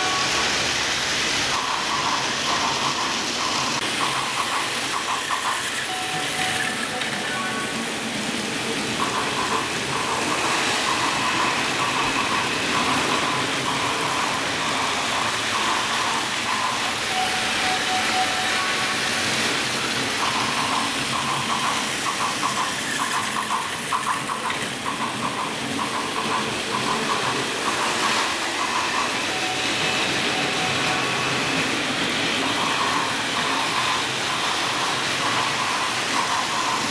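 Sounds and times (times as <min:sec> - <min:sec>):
model trains rattling on track: 0:00.0 - 0:36.9.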